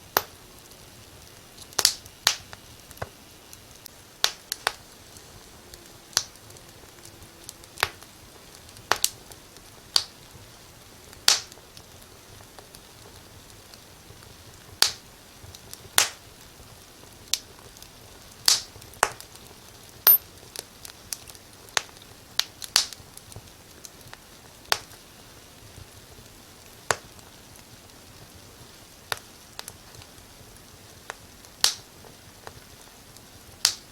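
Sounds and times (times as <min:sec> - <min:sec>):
low steady hiss: 0:00.0 - 0:33.9
wood fire crackling: 0:00.0 - 0:33.9.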